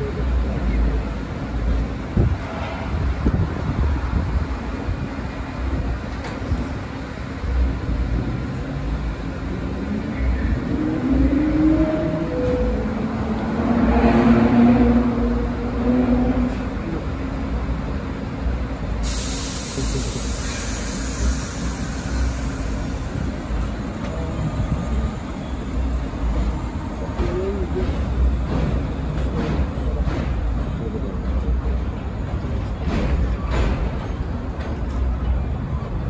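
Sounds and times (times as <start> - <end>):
train low rumble: 0.0 - 36.0.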